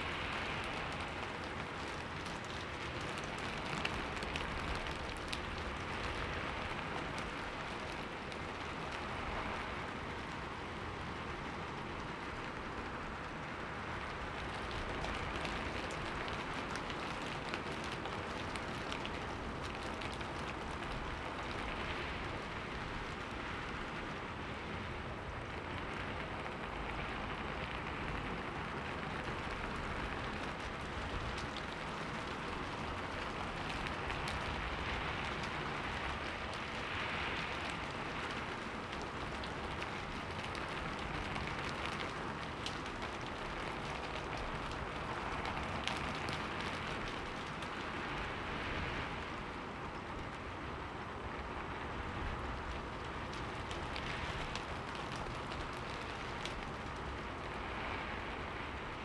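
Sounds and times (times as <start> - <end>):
rain on a window pane: 0.0 - 59.0.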